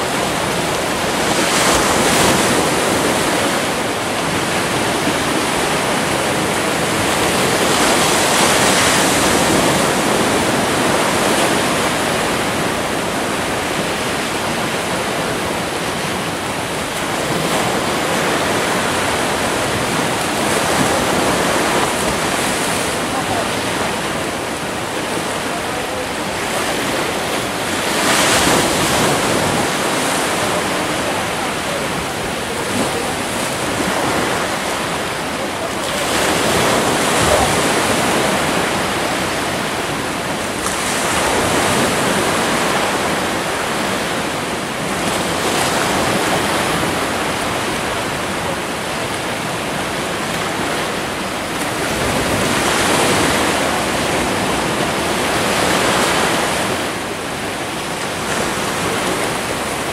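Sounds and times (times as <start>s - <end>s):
sea waves washing among rocks: 0.0s - 59.9s.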